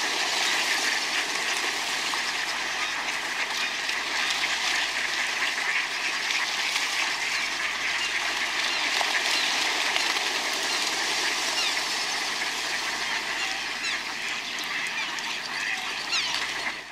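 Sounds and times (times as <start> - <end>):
ducks quacking: 0.0 - 16.9
ducks splashing in water: 0.0 - 16.9.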